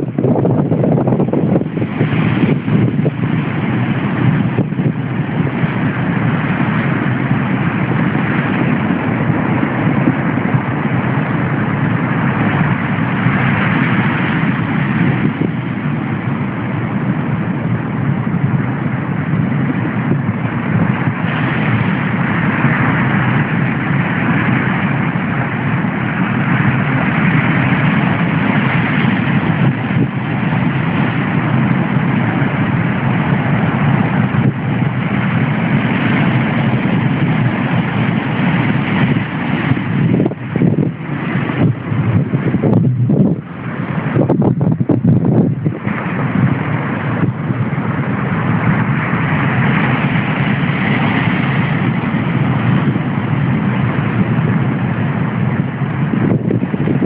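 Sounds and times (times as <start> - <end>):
rough surf on pebble beach: 0.0 - 57.0.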